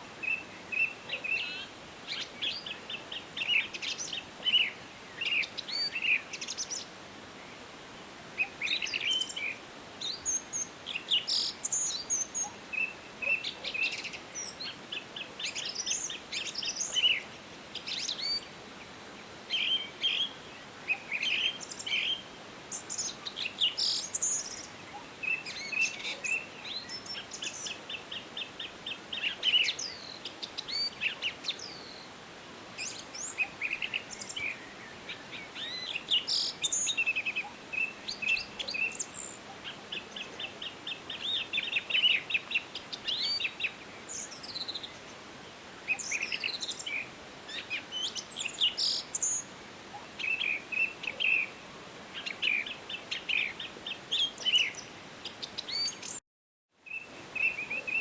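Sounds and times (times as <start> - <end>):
faint background hiss: 0.0 - 56.2, 56.8 - 58.0
songbirds chirping and trilling: 0.0 - 56.2, 56.8 - 58.0.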